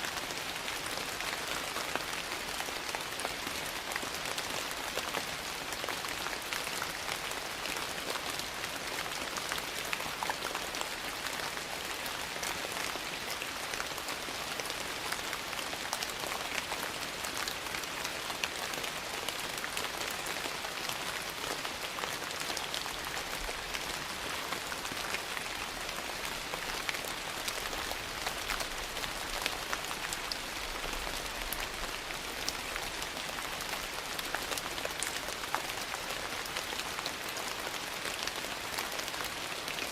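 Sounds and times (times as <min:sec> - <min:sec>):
rain falling on a porch: 0:00.0 - 0:39.9.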